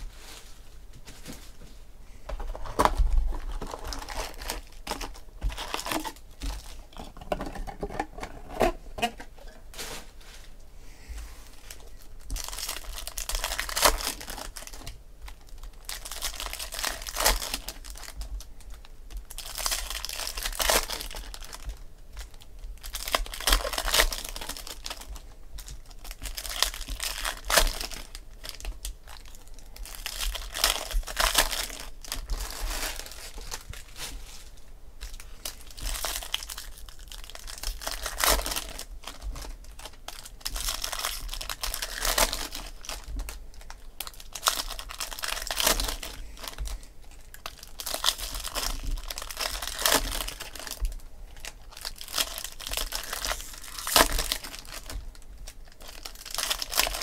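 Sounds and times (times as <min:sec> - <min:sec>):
foil wrappers tearing and crinkling: 0:02.4 - 0:06.9, 0:11.6 - 0:57.0.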